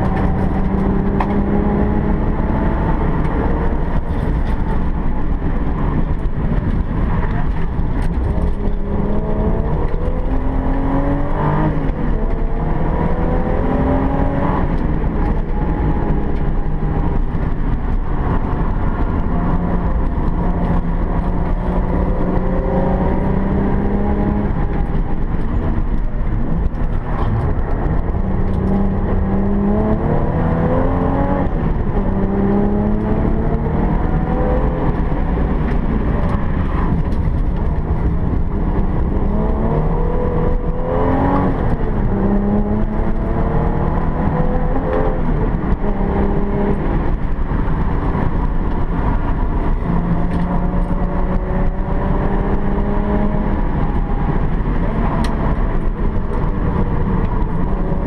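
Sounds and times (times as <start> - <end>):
race car engine revving: 0.0 - 58.0
road and wind rumble: 0.0 - 58.0.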